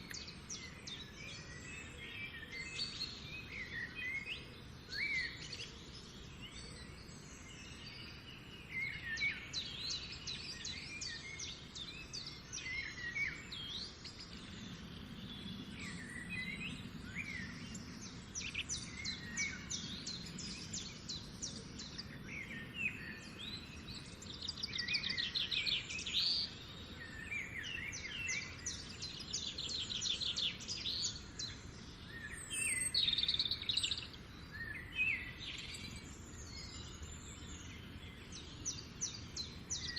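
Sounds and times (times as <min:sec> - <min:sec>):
birds singing and calling: 0:00.0 - 0:39.9
outdoor background hiss: 0:00.0 - 0:39.9.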